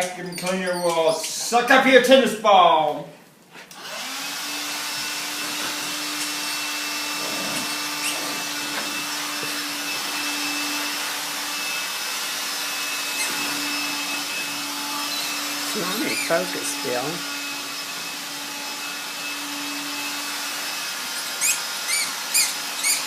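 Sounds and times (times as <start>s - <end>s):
vacuum cleaner motor humming: 3.8s - 23.0s.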